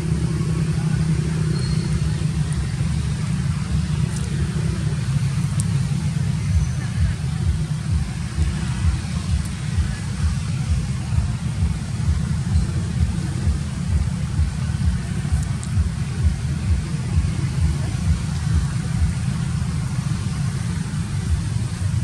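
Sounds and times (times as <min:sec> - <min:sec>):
low rumble with uneven flutter: 0:00.0 - 0:22.0.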